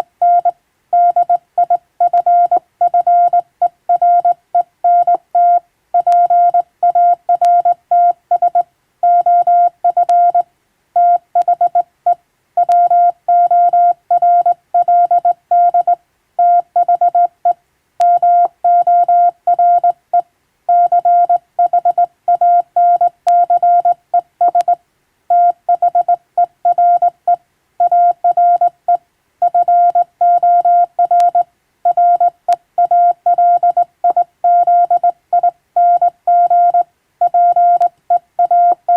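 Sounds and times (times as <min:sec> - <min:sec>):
morse code beeping tone: 0:00.2 - 0:10.4, 0:12.6 - 0:17.3, 0:18.0 - 0:20.0, 0:20.7 - 0:27.2, 0:27.8 - 0:28.7, 0:29.4 - 0:38.9.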